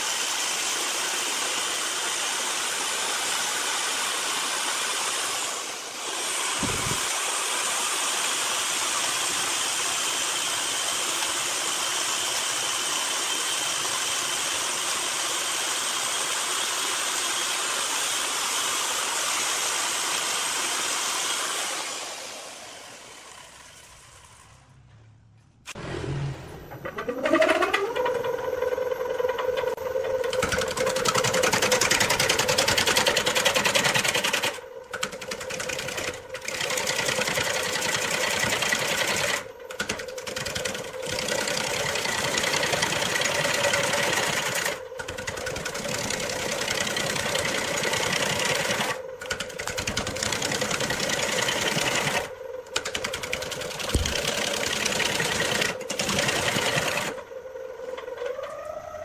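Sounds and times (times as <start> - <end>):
tool scraping spinning wood: 0.0 - 24.8, 25.7 - 57.3
wood lathe motor whine: 0.0 - 24.8, 25.7 - 59.0.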